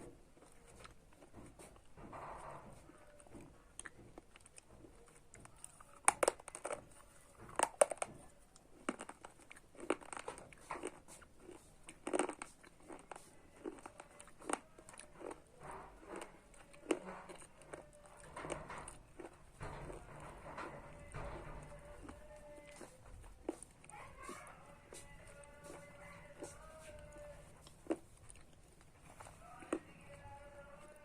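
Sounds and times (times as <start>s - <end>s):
person chewing gritty crunching: 0.0s - 31.0s.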